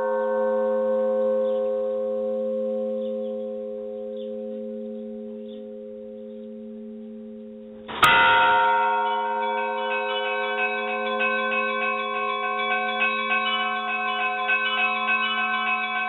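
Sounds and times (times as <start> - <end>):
church bell tolling: 0.0 - 16.0.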